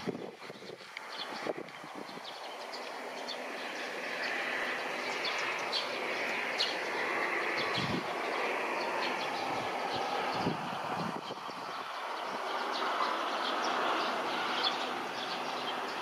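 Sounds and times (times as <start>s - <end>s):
distant jet engines roaring: 0.0s - 16.0s
small birds chirping: 0.0s - 16.0s.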